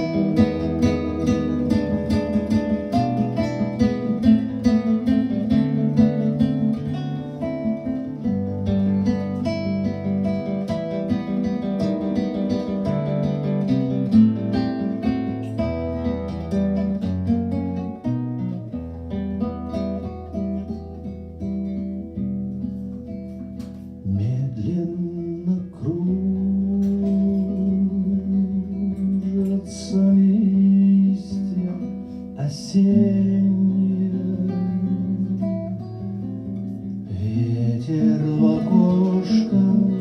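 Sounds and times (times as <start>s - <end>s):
acoustic guitar picking: 0.0s - 40.0s.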